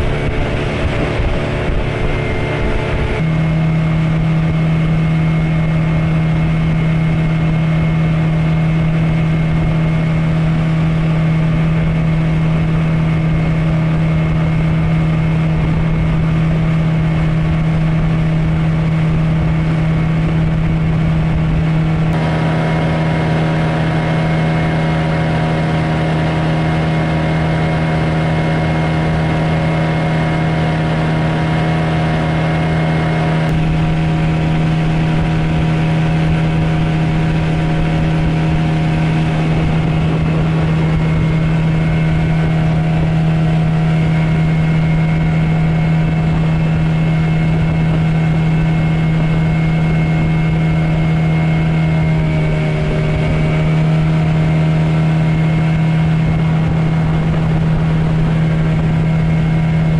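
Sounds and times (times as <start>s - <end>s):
outboard motor droning: 0.0s - 59.9s.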